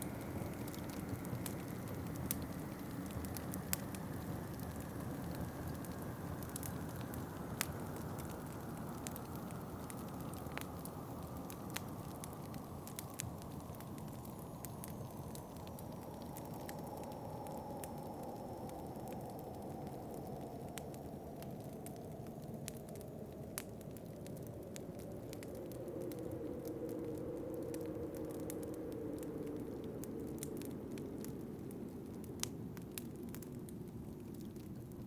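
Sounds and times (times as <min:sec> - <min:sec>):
low rush of wind: 0:00.0 - 0:35.0
wood fire crackling and popping: 0:00.0 - 0:35.0.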